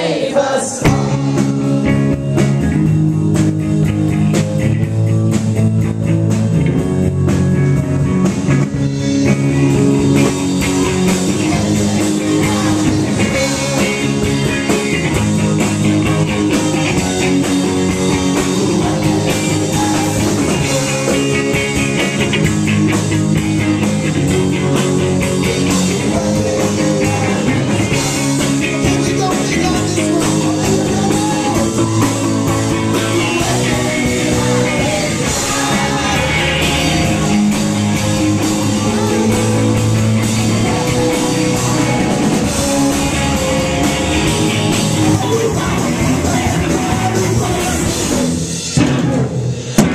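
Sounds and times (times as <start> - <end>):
bass guitar: 0.0 - 49.9
electric guitar: 0.4 - 49.9
drum beat: 0.8 - 3.7, 8.5 - 48.2.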